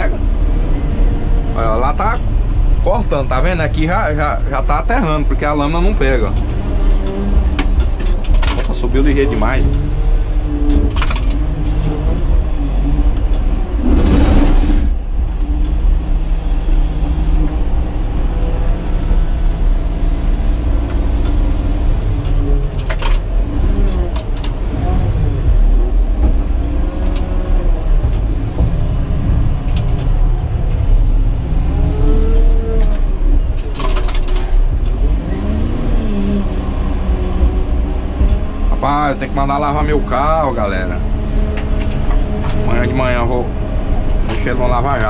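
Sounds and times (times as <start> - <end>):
diesel engine running under load: 0.0 - 45.0.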